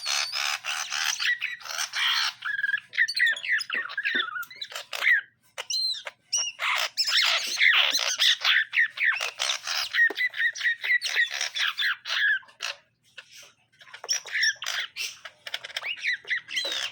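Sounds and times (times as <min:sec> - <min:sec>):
bird singing with squawks and whistles: 0:00.0 - 0:16.9.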